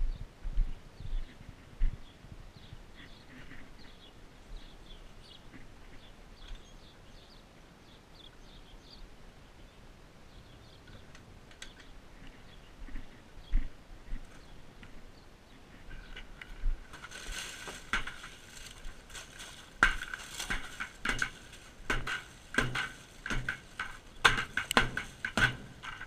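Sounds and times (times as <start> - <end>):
low wind-like rumble: 0.0 - 26.0
small birds chirping: 0.0 - 26.0.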